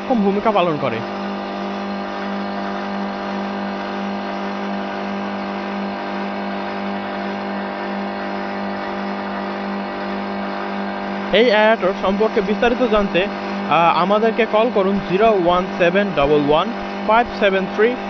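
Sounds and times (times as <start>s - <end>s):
electric motor hum: 0.0s - 18.0s.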